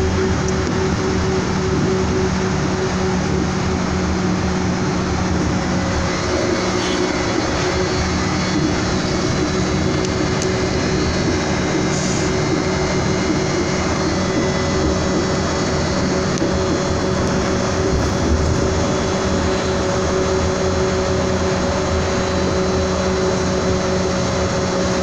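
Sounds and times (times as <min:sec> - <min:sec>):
motor hum: 0:00.0 - 0:25.0
train rumble inside carriage: 0:00.0 - 0:25.0.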